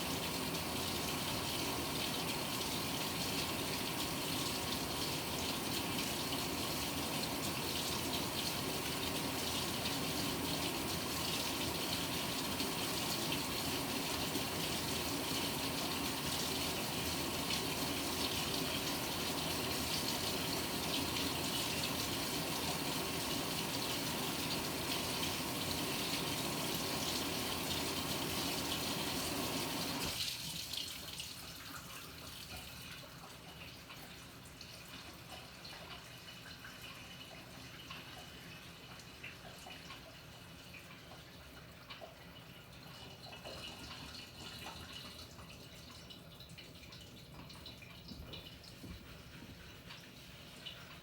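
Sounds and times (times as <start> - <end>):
water dripping: 0.0 - 51.0.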